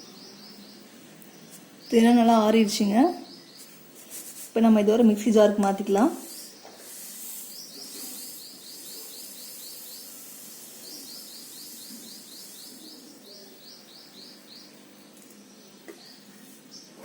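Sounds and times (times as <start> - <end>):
bird chirping: 0.0 - 3.8, 5.8 - 17.0
steady background hiss: 0.0 - 17.0.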